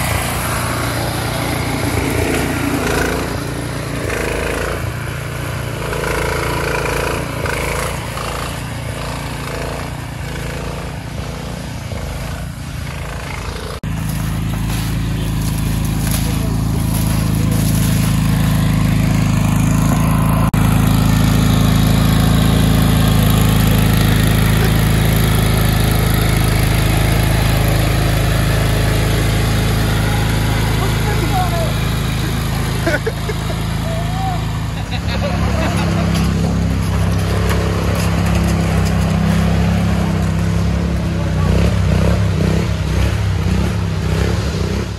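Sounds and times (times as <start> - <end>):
garden tractor engine running: 0.0 - 44.9
riding mower engine: 0.0 - 44.9.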